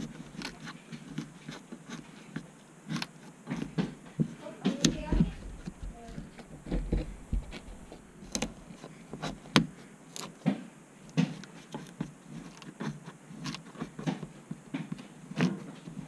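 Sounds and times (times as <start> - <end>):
plastic clicks and scrapes: 0.0 - 16.0.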